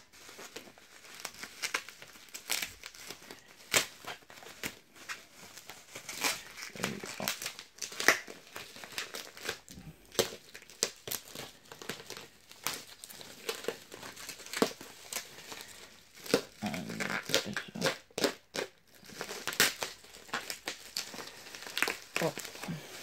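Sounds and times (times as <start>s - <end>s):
bubble wrap crinkling: 0.0s - 23.0s
knife cutting bubble wrap: 0.0s - 23.0s.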